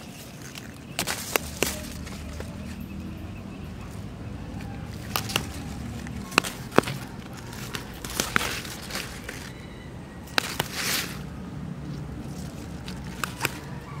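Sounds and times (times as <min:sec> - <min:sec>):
plant stems snapping: 0:00.0 - 0:02.8, 0:03.8 - 0:09.6, 0:10.2 - 0:14.0
dry leaves crackling and rustling: 0:00.0 - 0:14.0.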